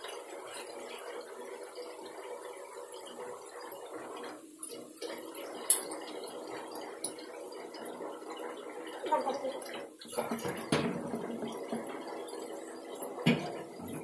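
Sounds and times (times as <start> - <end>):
curry bubbling in a pan: 0.0 - 14.0.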